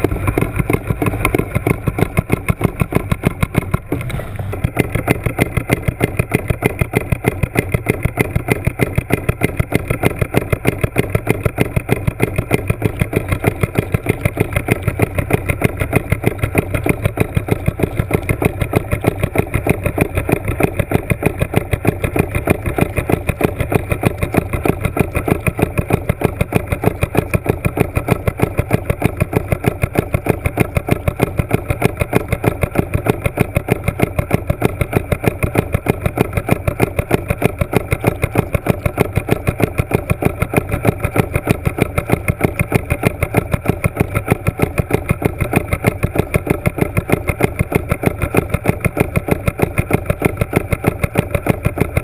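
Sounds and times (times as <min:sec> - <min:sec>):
motor running underwater: 0:00.0 - 0:52.0.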